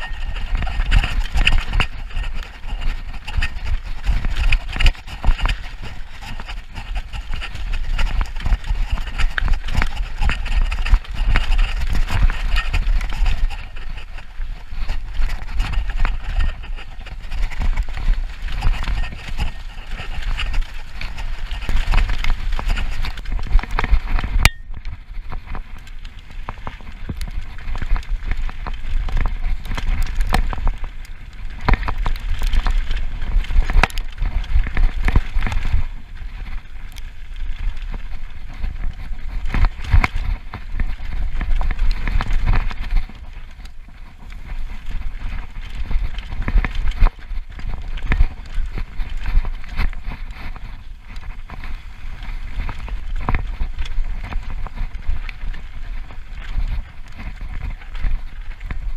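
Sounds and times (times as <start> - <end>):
bike chain and frame rattling: 0.0 - 58.9
tyres rolling over dirt: 0.0 - 58.9
wind buffeting microphone: 0.0 - 58.9.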